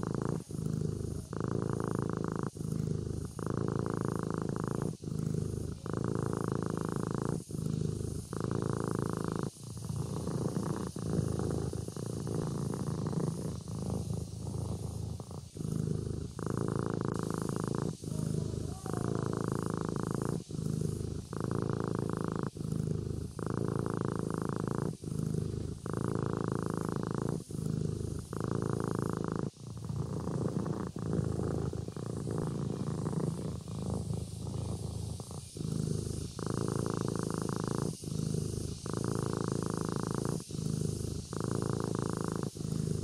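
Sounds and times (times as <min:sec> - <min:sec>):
kitten purring: 0:00.0 - 0:43.0.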